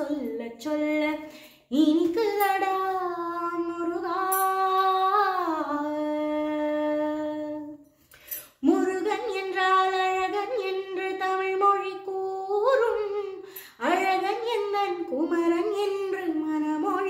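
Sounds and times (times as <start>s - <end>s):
woman singing devotional song: 0.0s - 17.0s.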